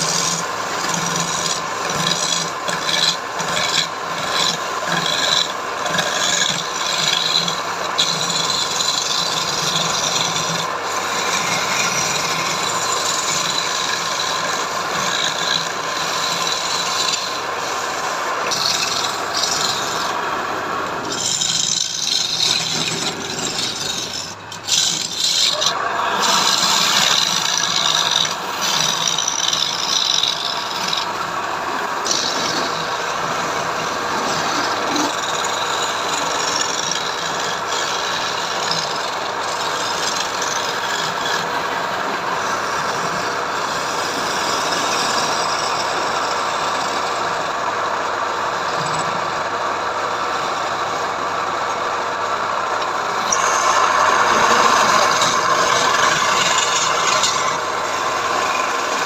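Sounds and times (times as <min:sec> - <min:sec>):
machine running: 0:00.0 - 0:59.0.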